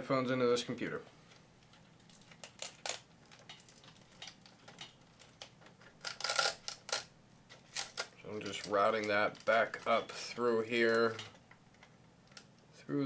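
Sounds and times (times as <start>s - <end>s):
cable rustling: 0.9s - 12.7s.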